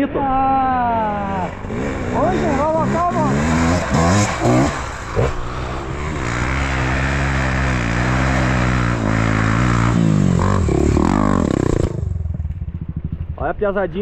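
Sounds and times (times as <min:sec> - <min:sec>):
dirt bike engine revving: 0:00.9 - 0:13.4.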